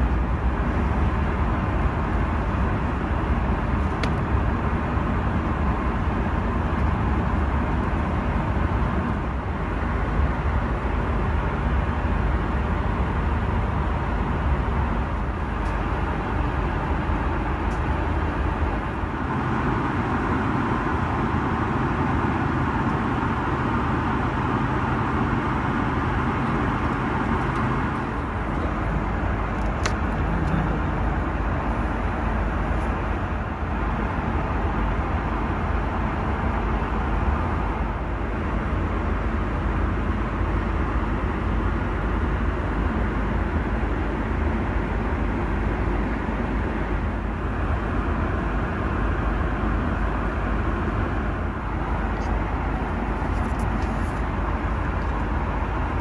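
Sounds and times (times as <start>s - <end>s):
airplane cabin airflow and engine drone: 0.0s - 56.0s.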